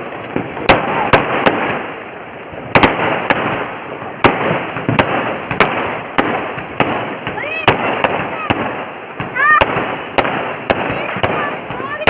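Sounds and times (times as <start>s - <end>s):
firework bangs: 0.0s - 12.0s
noisy crackle of fireworks: 0.0s - 12.0s.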